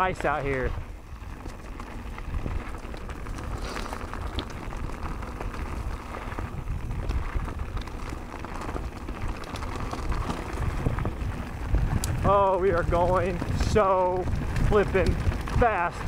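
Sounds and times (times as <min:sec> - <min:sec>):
bike tyres rolling over dirt: 0:00.0 - 0:16.0
clicks and rattles from bike: 0:00.0 - 0:16.0
wind buffeting microphone: 0:00.0 - 0:16.0.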